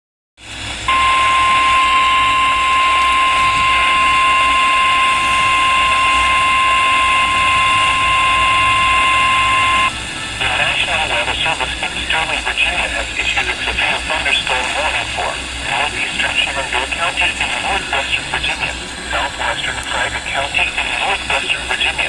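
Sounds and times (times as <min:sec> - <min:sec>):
steady warning tone: 0:00.4 - 0:22.0.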